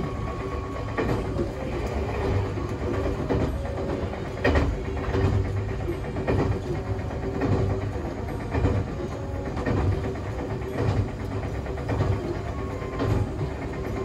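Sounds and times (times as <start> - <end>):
train wheel and motor noise: 0.0 - 14.0.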